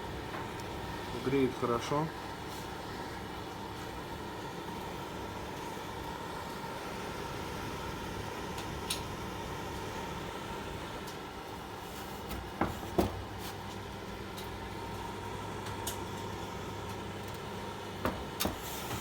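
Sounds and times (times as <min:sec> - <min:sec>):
heater fan humming: 0:00.0 - 0:19.0.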